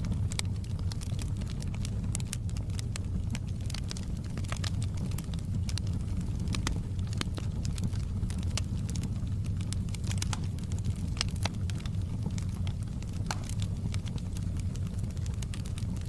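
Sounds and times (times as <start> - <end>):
low rumble of burning fire: 0.0 - 16.0
wood fire crackling and popping: 0.0 - 16.0.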